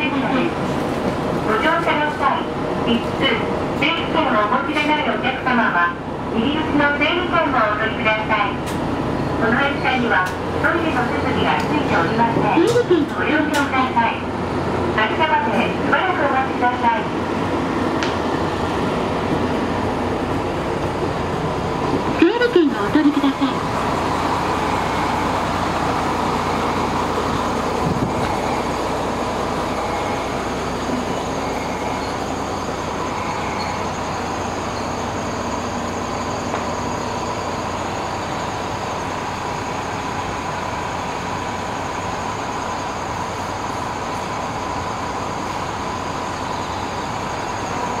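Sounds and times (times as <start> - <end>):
diesel railcar engine idling: 0.0 - 48.0.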